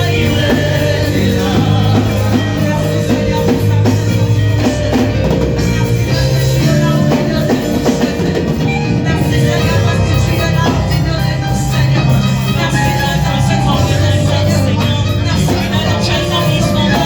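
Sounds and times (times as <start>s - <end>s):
drum beat: 0.0s - 17.0s
live band music: 0.0s - 17.0s.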